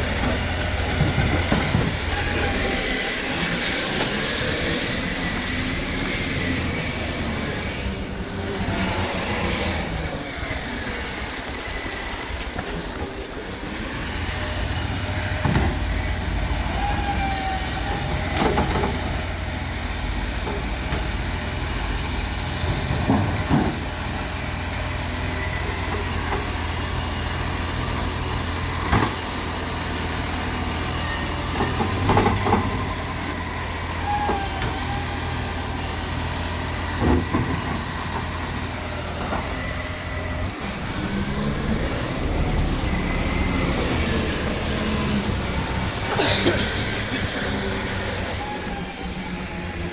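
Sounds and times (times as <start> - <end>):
garbage truck diesel engine: 0.0 - 49.9.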